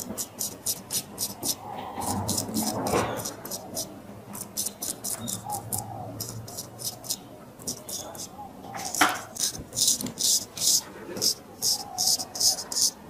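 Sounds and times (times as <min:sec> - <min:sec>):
razor scraping stubble: 0:00.0 - 0:13.0.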